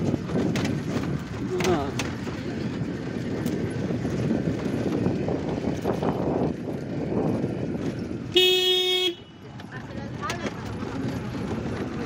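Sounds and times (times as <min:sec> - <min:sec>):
road noise rumble: 0:00.0 - 0:12.0
vehicle rattling and clattering: 0:00.0 - 0:12.0.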